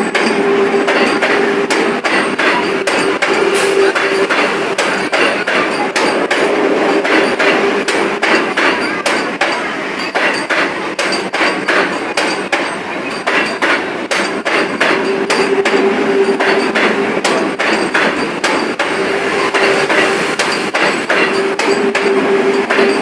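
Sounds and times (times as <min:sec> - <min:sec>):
train wheels clacking over rail joints: 0:00.0 - 0:23.0.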